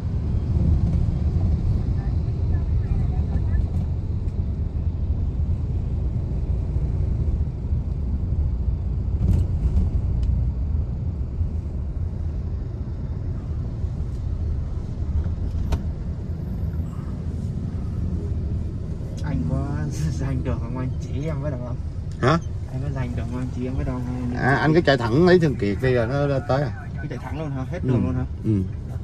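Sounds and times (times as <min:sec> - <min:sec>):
car interior road rumble: 0:00.0 - 0:29.0.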